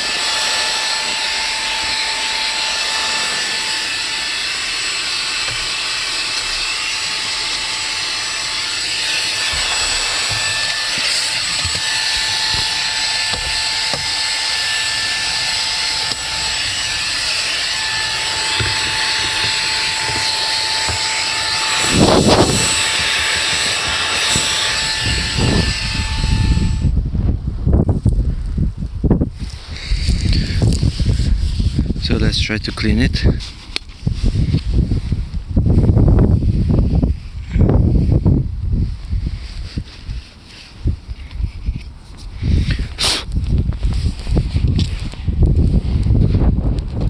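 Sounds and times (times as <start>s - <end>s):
handheld vacuum cleaner whine: 0.0s - 47.0s.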